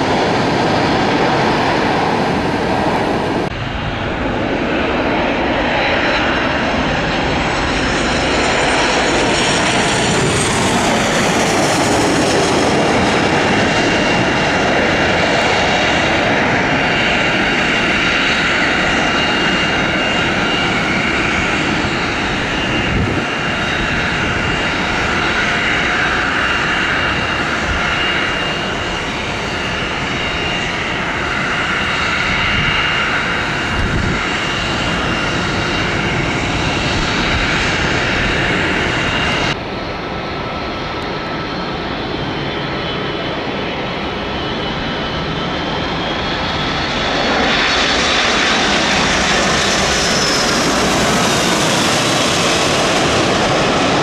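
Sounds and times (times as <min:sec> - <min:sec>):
jet engine whine: 0:00.0 - 0:54.0
jet roar: 0:00.0 - 0:54.0.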